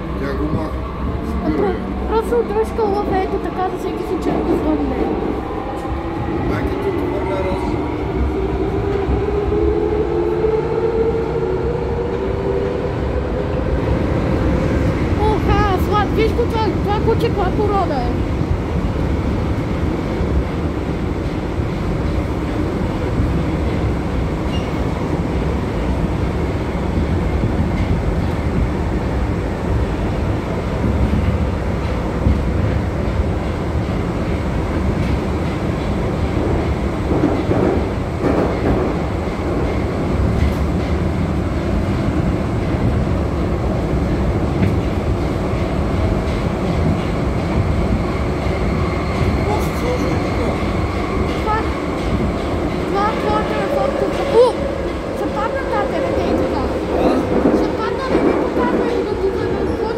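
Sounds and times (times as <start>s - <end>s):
metro train rumble: 0.0s - 59.9s.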